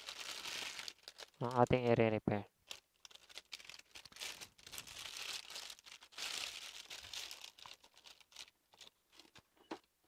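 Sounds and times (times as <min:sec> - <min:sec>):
packaging crinkling and rustling: 0:00.0 - 0:01.7, 0:02.6 - 0:09.9.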